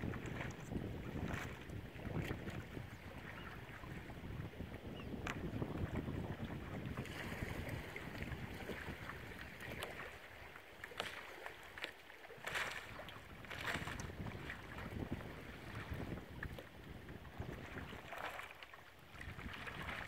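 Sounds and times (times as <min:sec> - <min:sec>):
wind buffeting microphone: 0:00.0 - 0:10.1, 0:12.9 - 0:18.1, 0:19.1 - 0:20.0
water lapping at rocks: 0:00.0 - 0:20.0.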